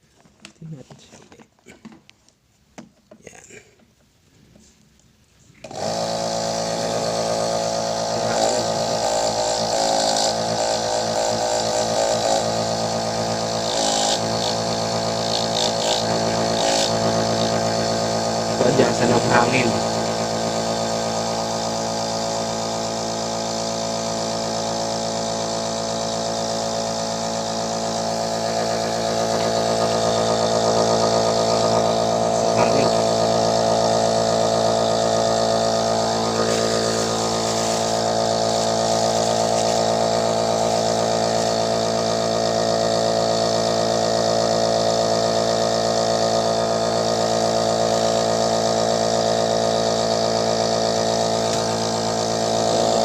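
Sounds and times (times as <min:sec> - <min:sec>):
air compressor buzzing hum: 0:05.4 - 0:53.0.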